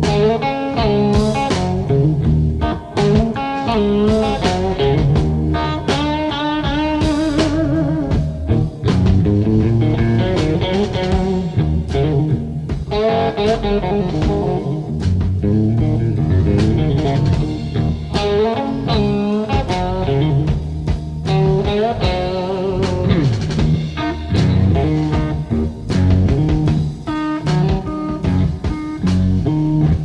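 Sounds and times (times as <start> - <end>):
bass line: 0.0 - 30.0
blues guitar: 0.0 - 30.0.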